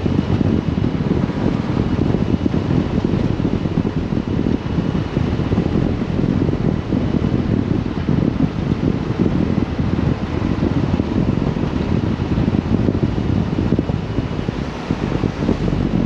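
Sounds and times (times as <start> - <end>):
vehicle driving rumble: 0.0 - 16.0.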